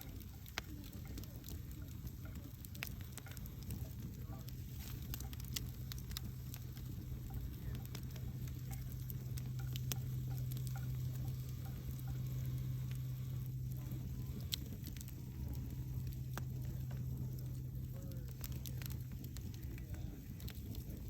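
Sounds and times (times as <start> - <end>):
campfire crackling and popping: 0.0 - 21.0
low steady hum: 0.0 - 21.0.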